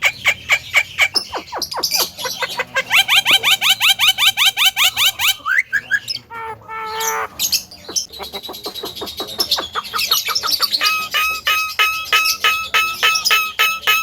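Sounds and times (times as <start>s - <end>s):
bird harsh squawk: 0.0s - 14.0s
myna chirping and whistling: 0.0s - 14.0s.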